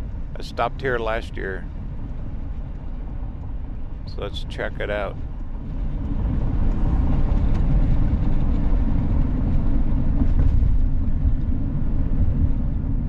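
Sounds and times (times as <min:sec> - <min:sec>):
van driving road noise: 0:00.0 - 0:13.0.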